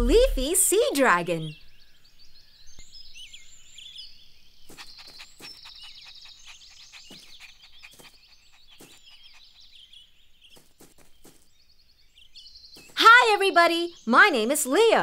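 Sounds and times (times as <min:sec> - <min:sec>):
small birds chirping: 0:00.3 - 0:15.0.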